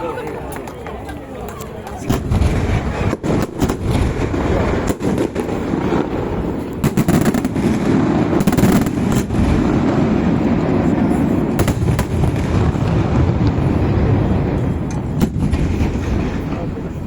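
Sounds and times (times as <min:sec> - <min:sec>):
fireworks bangs and crackling: 0:01.4 - 0:17.0
loud firework reports: 0:02.0 - 0:17.0.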